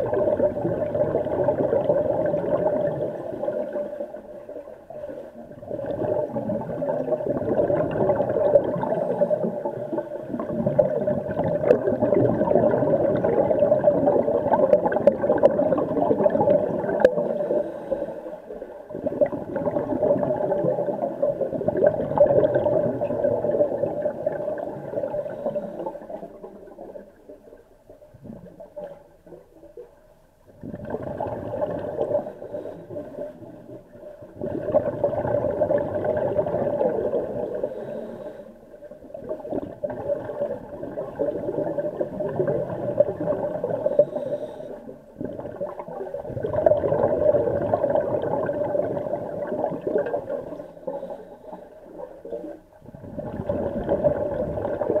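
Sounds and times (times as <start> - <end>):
underwater hum: 0.0 - 55.0
water gurgling: 0.0 - 55.0.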